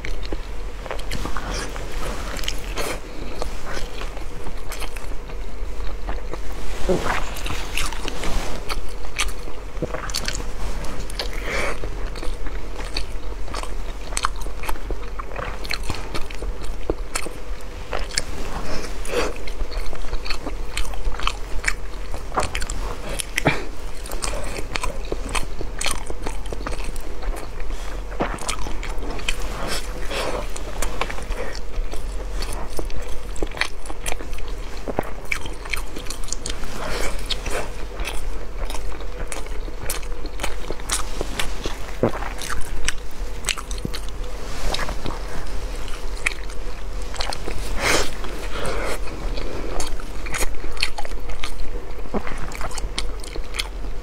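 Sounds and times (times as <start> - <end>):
wet chewing clicks: 7.0 - 53.9.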